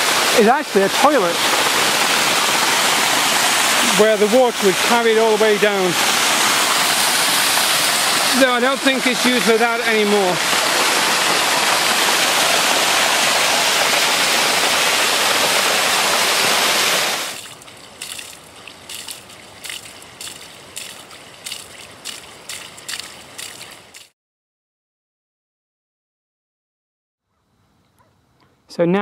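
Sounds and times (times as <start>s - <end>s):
stream rushing: 0.0s - 24.1s
water trickling: 0.0s - 24.1s.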